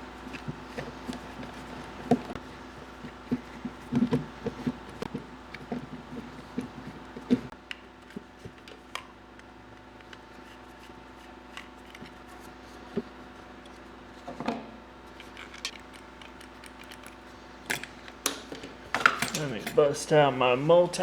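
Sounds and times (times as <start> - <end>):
light clicks and handling noises: 0.2 - 20.1.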